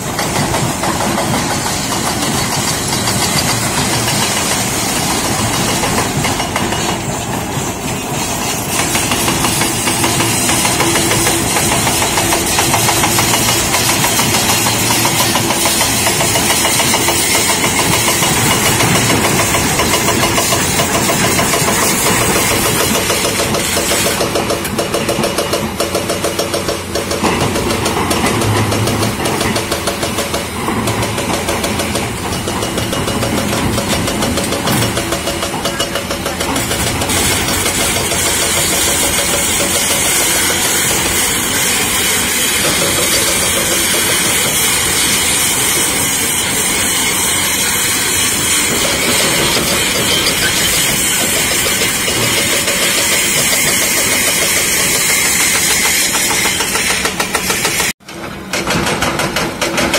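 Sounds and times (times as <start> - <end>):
excavator diesel engines running: 0.0 - 59.9
hydraulic breaker hammering rock: 0.0 - 59.9.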